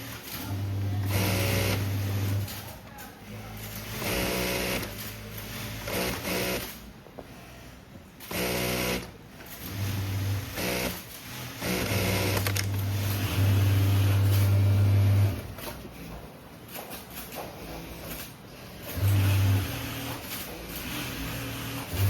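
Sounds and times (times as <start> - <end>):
industrial sewing machines stitching: 0.0 - 16.0, 16.7 - 22.0.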